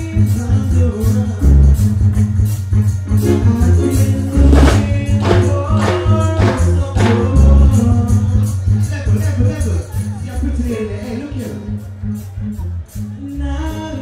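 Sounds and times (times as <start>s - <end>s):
man singing into a microphone: 0.0s - 1.9s, 3.2s - 11.8s, 12.9s - 14.0s
backing track over loudspeakers: 0.0s - 14.0s
deep bass line: 0.0s - 14.0s.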